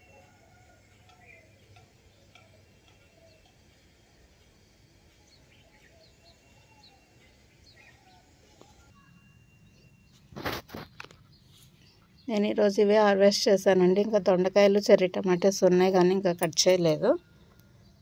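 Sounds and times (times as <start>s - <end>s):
distant birds chirping: 0.0s - 18.0s.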